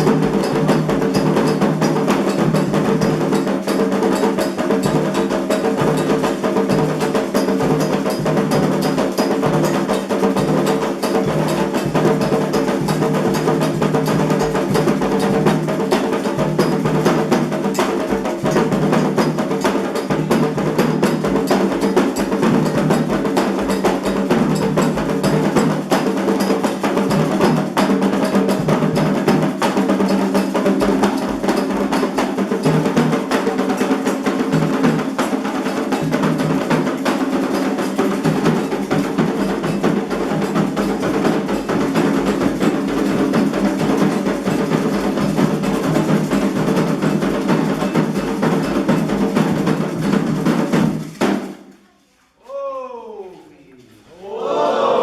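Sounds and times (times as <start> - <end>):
fast hand drumming: 0.0 - 51.6.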